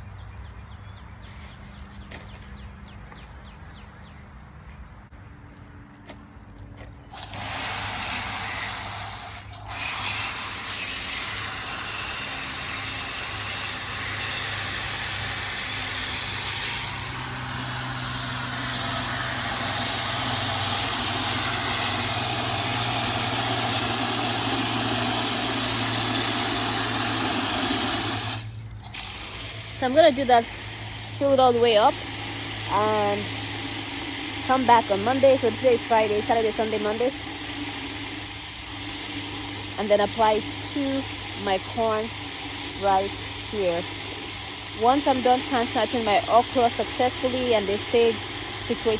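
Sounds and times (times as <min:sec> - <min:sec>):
water gushing into container: 0:07.0 - 0:48.9.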